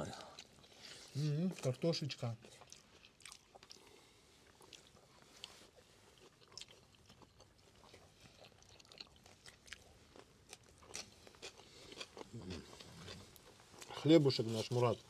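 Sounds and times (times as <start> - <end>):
person chewing: 0.0 - 1.8, 2.4 - 14.1.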